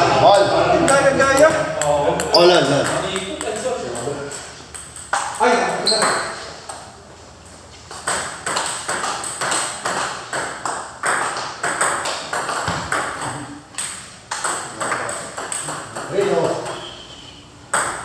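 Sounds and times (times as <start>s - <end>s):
ping-pong ball hitting paddles: 0.2s - 7.0s, 7.9s - 18.0s.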